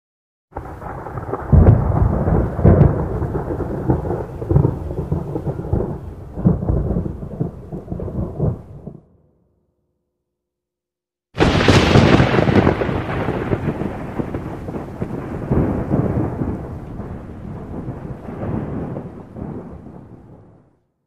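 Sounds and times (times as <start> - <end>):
rolling thunder: 0.6 - 9.1, 11.4 - 20.7.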